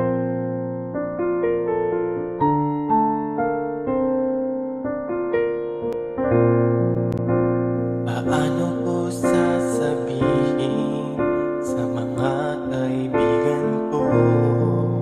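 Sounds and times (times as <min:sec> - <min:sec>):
piano ballad melody: 0:00.0 - 0:15.0.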